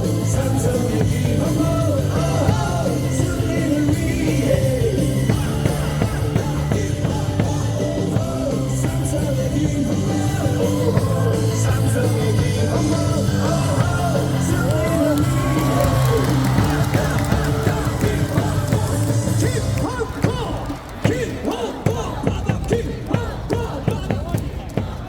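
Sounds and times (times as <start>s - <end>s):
crowd yelling: 0.0s - 25.0s
rock cheer music with singing: 0.0s - 25.0s.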